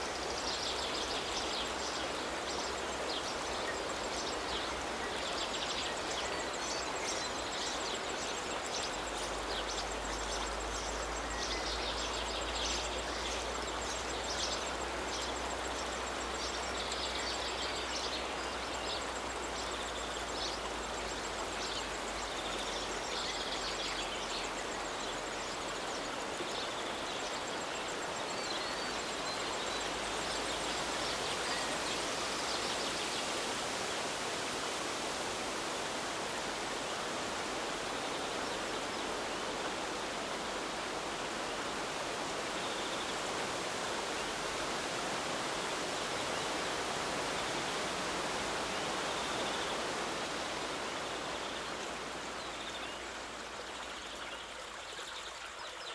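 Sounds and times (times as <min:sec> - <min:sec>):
river water flowing: 0:00.0 - 0:55.9.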